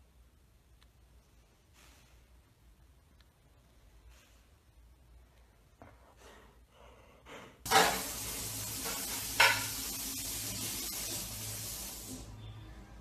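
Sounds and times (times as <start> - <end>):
steady hiss: 0.0 - 12.6.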